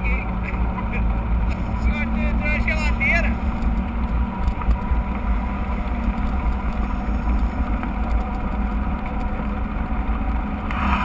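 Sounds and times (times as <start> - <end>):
bike rolling noise: 0.0 - 11.0
wind buffeting microphone: 0.3 - 10.9.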